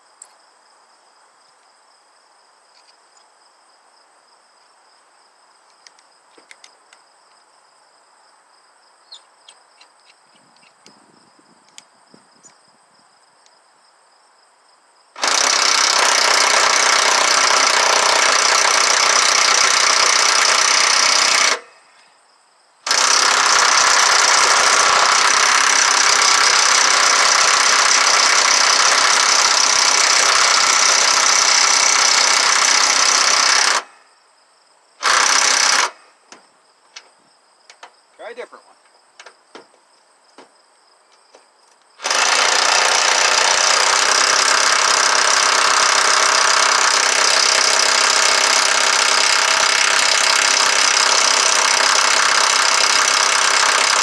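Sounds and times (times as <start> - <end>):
faint crickets: 0.0 - 54.0.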